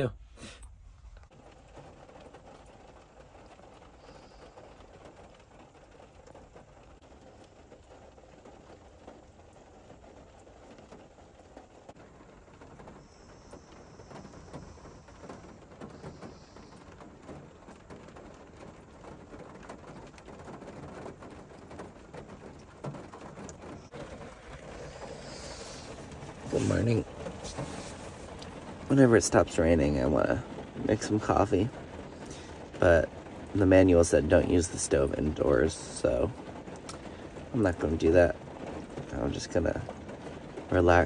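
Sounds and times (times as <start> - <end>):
rain pattering on car roof: 0.0 - 41.0.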